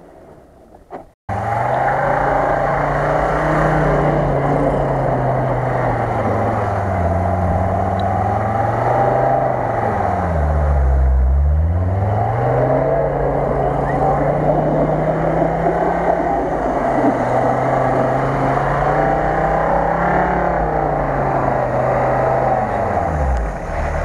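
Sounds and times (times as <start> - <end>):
off-road vehicle engine revving: 1.3 - 24.0.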